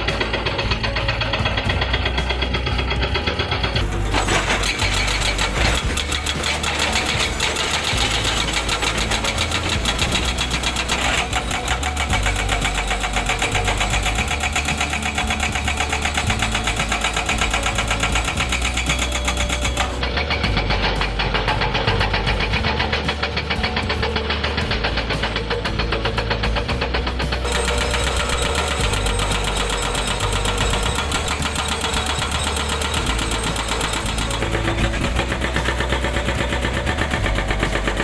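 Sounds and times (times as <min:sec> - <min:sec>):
excavator engine running: 0:00.0 - 0:38.0
hydraulic rock breaker hammering: 0:00.0 - 0:38.0.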